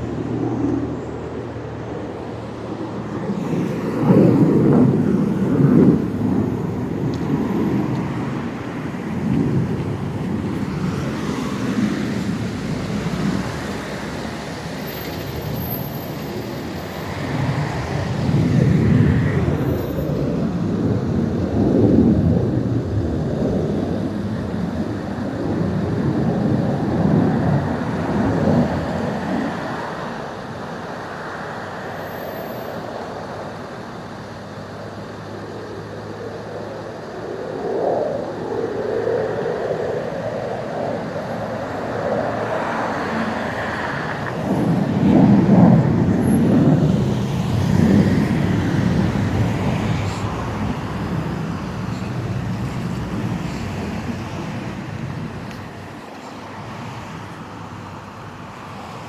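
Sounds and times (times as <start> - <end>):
low rumbling from the sky: 0.0 - 32.0, 32.6 - 59.0.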